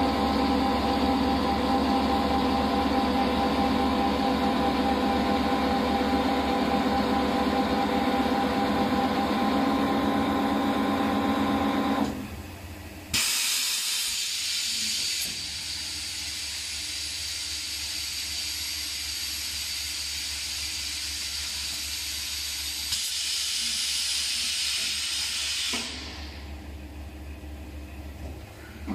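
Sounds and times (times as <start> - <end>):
machine mechanical hum: 0.0 - 28.9.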